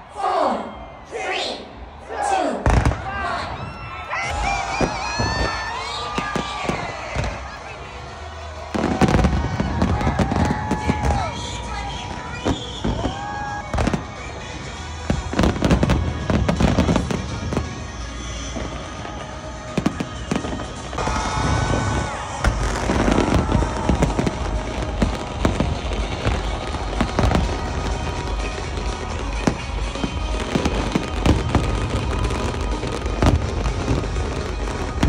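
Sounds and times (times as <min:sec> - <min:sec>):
fireworks bangs and crackling: 0:02.6 - 0:35.0
music: 0:04.3 - 0:35.0.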